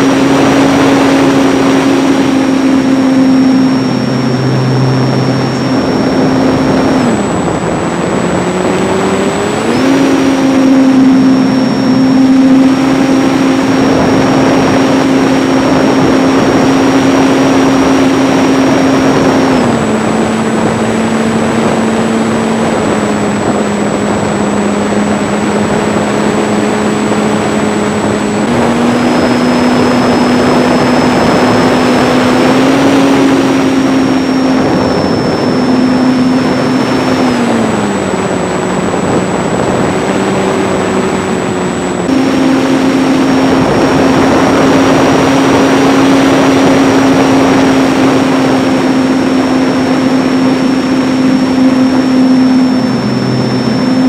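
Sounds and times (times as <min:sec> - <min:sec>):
electric motor and propeller whining: 0:00.0 - 0:54.0
wind rush: 0:00.0 - 0:54.0.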